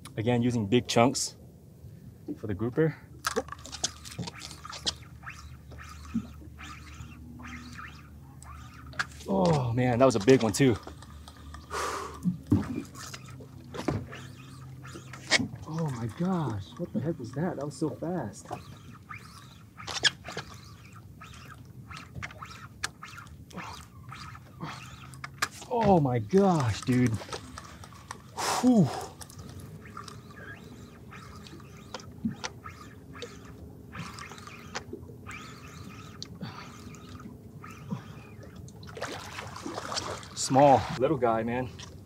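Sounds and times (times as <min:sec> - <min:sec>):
water lapping against boat hull: 0:00.0 - 0:42.0
fishing reel rasps and clicks: 0:03.2 - 0:42.0.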